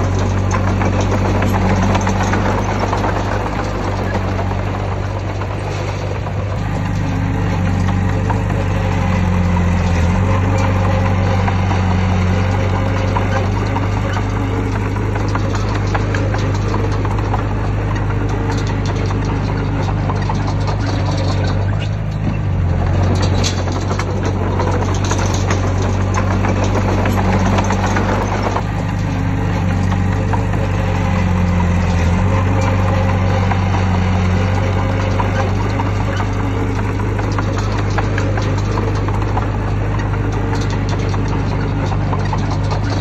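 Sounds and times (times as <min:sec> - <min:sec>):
heavy diesel engine running: 0:00.0 - 0:43.0
metallic clanks: 0:00.0 - 0:43.0.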